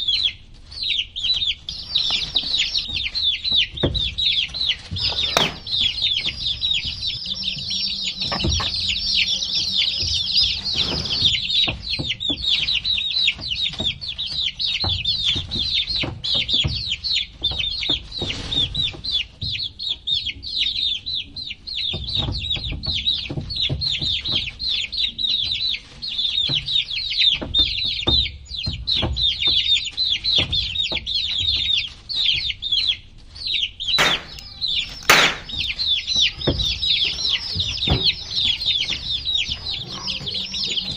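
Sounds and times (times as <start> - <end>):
baby chicks peeping: 0.8 - 26.8, 33.5 - 40.9.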